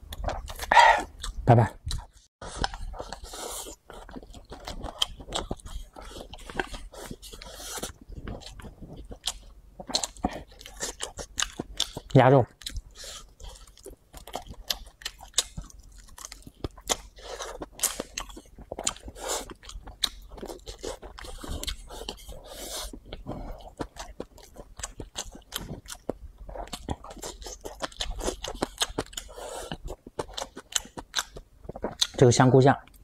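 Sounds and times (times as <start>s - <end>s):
wet chewing mouth sounds: 0.1s - 32.3s.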